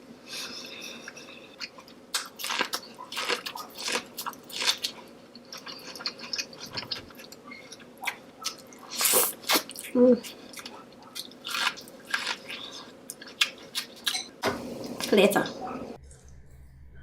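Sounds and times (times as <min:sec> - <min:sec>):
wet chewing and mouth sounds: 0:00.4 - 0:14.3.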